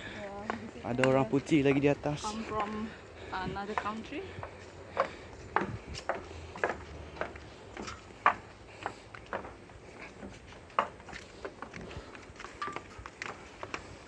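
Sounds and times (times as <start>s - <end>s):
footsteps in heeled shoes: 0.3s - 14.0s.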